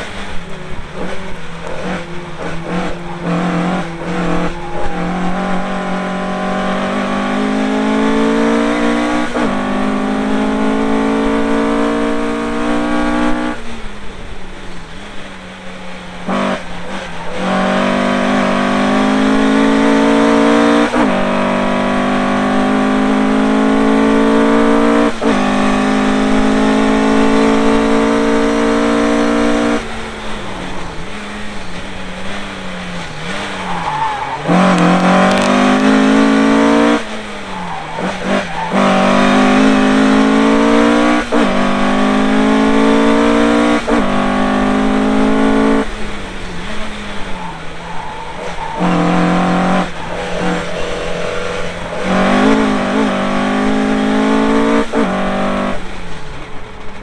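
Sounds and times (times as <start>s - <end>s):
race car engine at full throttle: 0.0s - 57.0s.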